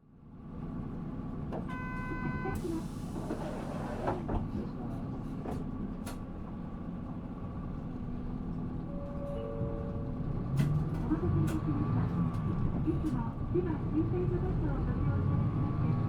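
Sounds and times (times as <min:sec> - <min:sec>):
diesel engine low rumble: 0:00.0 - 0:16.0.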